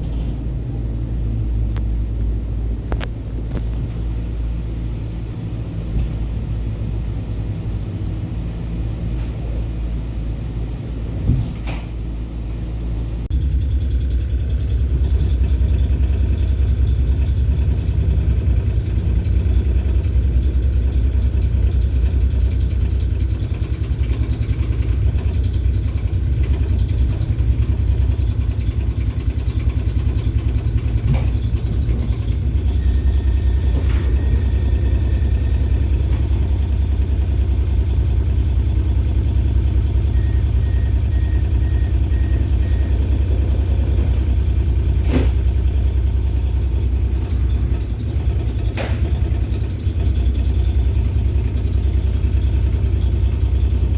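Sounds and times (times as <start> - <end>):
tram low rumble: 0.0 - 53.9.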